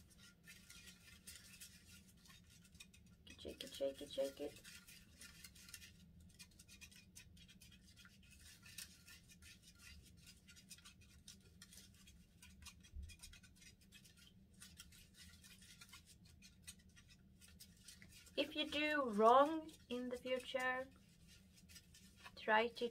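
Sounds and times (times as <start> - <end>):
plastic spoon stirring in tray: 0.0 - 22.9.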